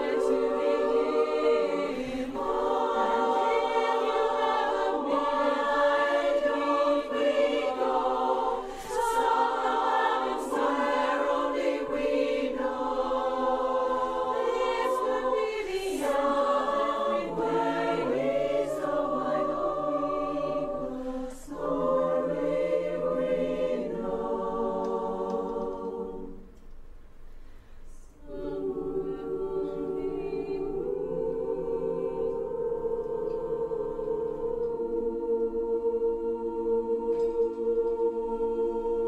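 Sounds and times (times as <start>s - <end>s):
women's chorus singing a cappella: 0.0s - 26.6s, 27.9s - 39.0s.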